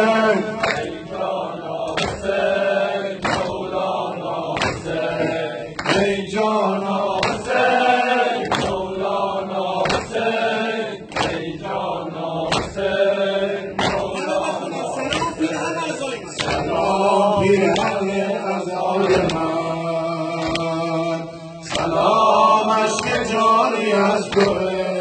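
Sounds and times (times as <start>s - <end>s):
men chanting in unison: 0.0s - 25.0s
hands slapping chests: 0.6s - 23.4s, 24.1s - 25.0s.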